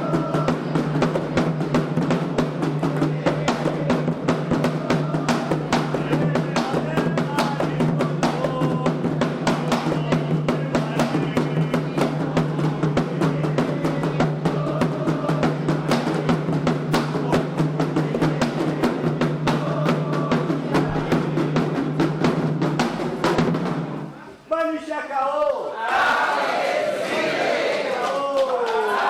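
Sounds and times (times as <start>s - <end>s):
voices singing: 0.0s - 22.0s, 25.7s - 29.0s
hand drums fast rhythm: 0.0s - 24.0s.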